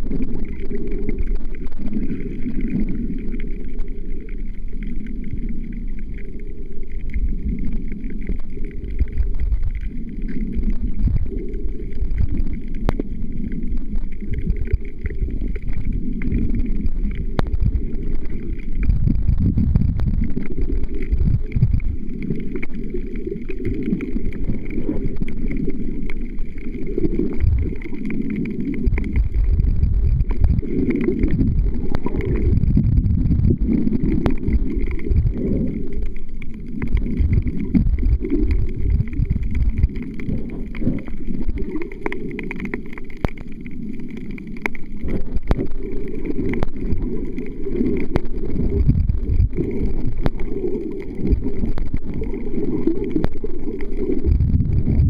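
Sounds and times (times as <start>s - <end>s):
muffled underwater water rushing: 0.0s - 55.0s
faint clicks: 1.1s - 19.0s, 20.3s - 55.0s.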